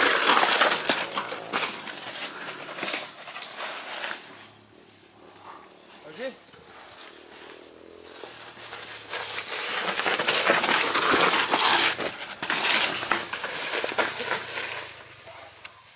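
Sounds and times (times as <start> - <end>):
bike tyres on dirt: 0.0 - 15.9.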